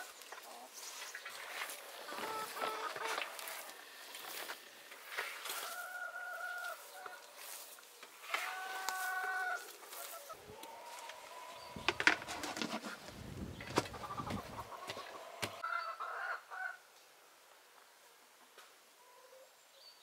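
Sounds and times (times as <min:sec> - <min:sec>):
chickens clucking: 0:00.0 - 0:16.8.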